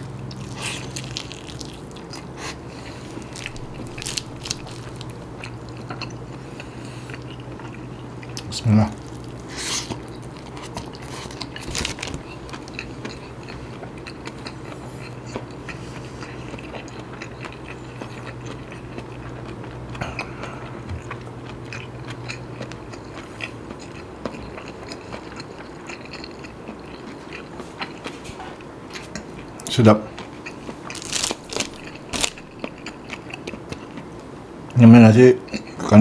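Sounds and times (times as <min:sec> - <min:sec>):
close chewing with wet clicks: 0:00.0 - 0:34.3, 0:35.4 - 0:35.9
low steady hum: 0:00.0 - 0:36.0.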